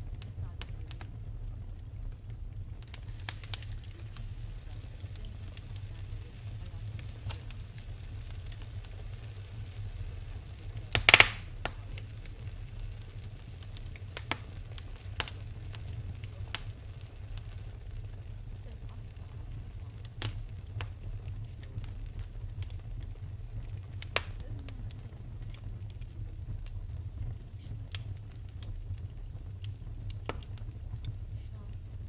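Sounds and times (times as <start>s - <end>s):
loud sharp pop of fire: 0.0s - 32.0s
wood fire crackling: 0.0s - 32.0s.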